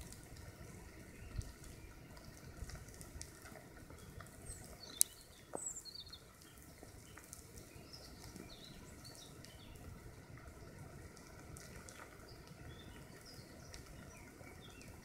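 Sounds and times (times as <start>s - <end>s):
ants crawling crackle: 0.0s - 15.0s.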